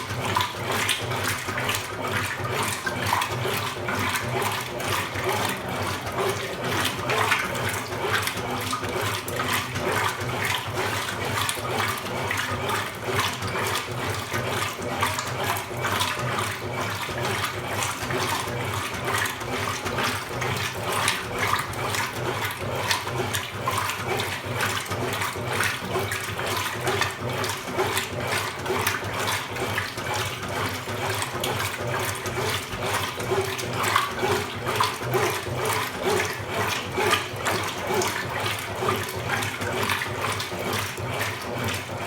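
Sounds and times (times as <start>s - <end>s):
water churning in washing machine: 0.0s - 42.0s.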